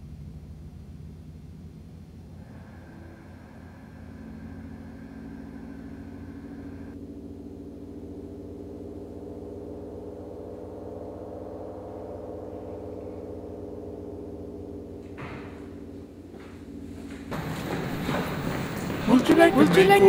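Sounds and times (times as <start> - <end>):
low drone of held tones: 0.0 - 20.0.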